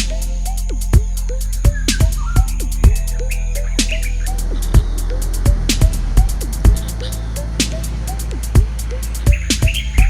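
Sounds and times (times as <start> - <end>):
background music with beat: 0.0 - 10.0
gliding synth notes: 0.0 - 10.0.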